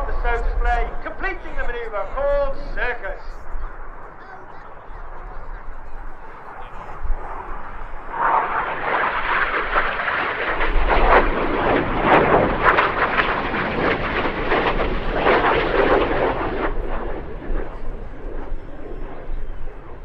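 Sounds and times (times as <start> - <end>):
jets passing low: 0.0 - 20.0.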